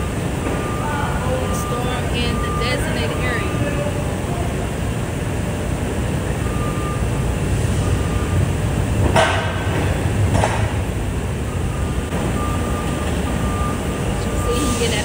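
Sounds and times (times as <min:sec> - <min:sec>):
forklift machinery rumble: 0:00.0 - 0:15.0.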